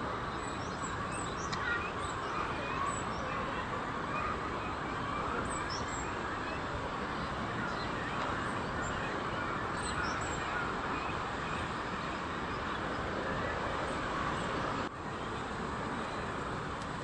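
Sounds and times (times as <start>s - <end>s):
outdoor background noise: 0.0s - 17.0s
faint bird calls: 0.4s - 14.5s.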